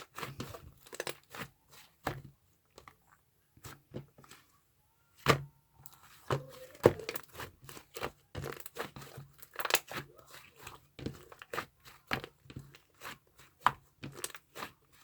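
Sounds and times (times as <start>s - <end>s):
food crinkling and crunching: 0.0s - 4.6s, 5.4s - 15.0s.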